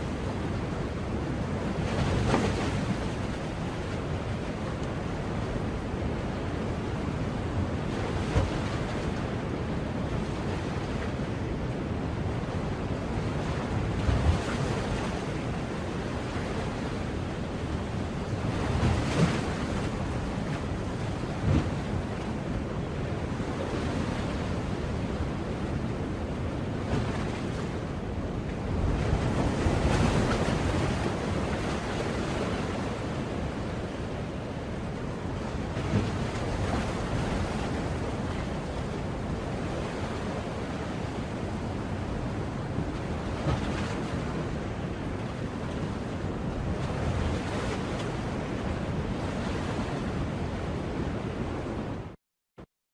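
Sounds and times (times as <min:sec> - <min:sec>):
sea waves breaking on shore: 0:00.0 - 0:52.2.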